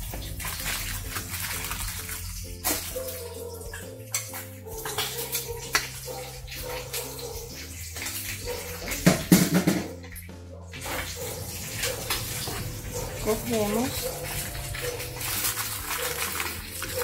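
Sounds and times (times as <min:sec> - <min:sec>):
background music with low notes: 0:00.0 - 0:17.0.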